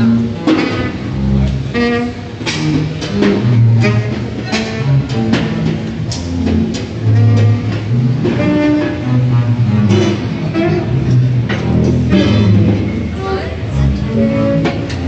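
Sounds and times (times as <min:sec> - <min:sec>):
double bass notes: 0:00.0 - 0:15.0
saxophone tones: 0:00.0 - 0:15.0.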